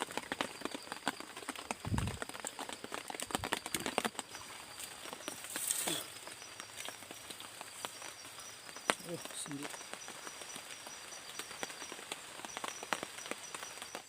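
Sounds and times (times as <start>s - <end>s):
raindrops pattering on leaves: 0.0s - 14.0s.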